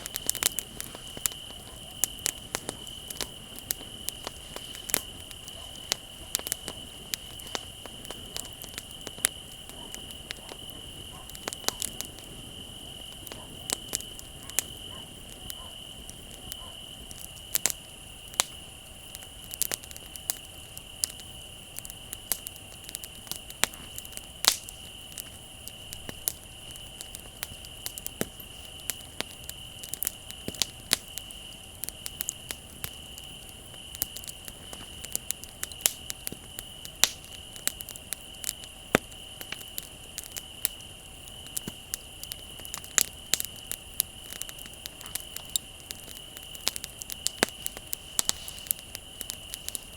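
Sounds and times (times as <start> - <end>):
crickets trilling: 0.0 - 49.9
wood fire crackling: 0.0 - 49.9.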